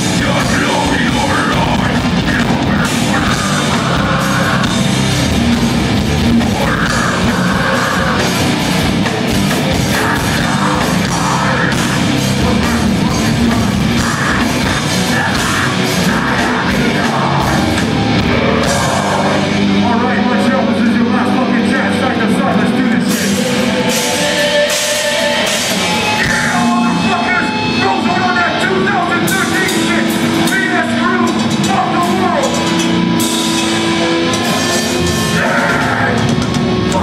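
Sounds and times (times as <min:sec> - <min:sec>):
person singing and shouting: 0:00.0 - 0:05.5, 0:06.2 - 0:33.2, 0:34.3 - 0:37.0
drum kit: 0:00.0 - 0:37.0
electric guitars: 0:00.0 - 0:37.0.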